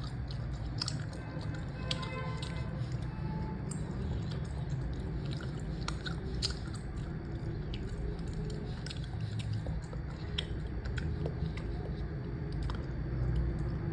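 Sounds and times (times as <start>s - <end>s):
gummy candy sticky squishes: 0.0s - 13.9s
steady low hum: 0.0s - 13.9s.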